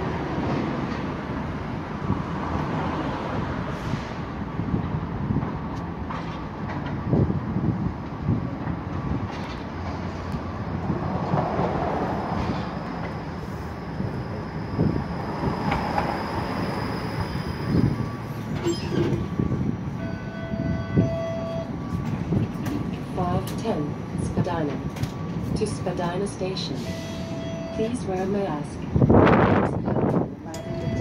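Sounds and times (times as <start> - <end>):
streetcar rumbling on rails: 0.0 - 31.0.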